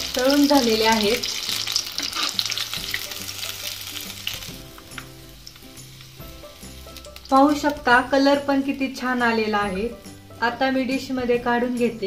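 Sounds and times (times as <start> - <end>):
deep-frying crackle and sizzle: 0.0 - 12.0.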